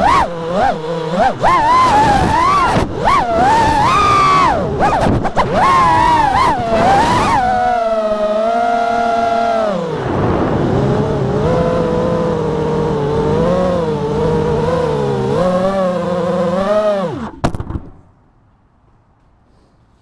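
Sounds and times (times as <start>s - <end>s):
quadcopter motors whining: 0.0s - 17.4s.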